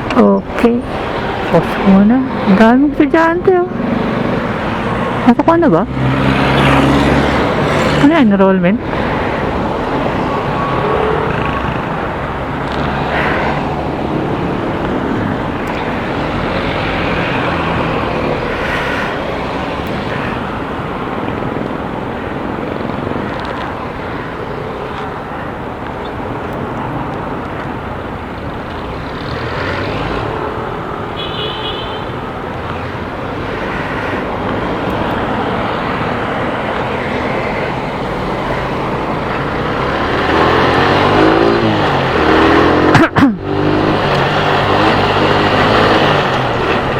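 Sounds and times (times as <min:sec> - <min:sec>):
road and traffic noise: 0:00.0 - 0:46.9.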